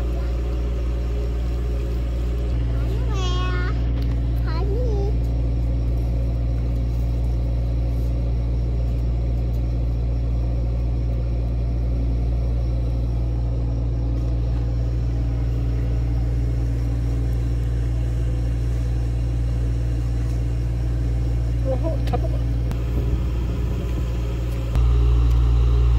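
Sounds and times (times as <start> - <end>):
low mechanical hum: 0.0 - 25.9.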